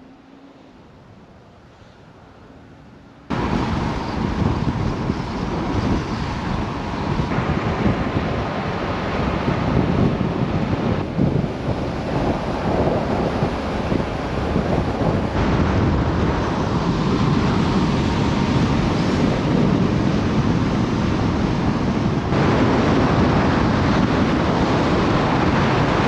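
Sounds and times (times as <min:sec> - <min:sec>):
wind rushing over camera: 0:03.3 - 0:26.0.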